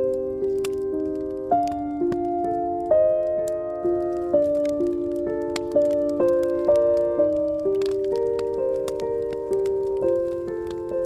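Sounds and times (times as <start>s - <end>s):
slow soft piano music: 0.0s - 11.0s
wood fire crackling: 0.0s - 11.0s.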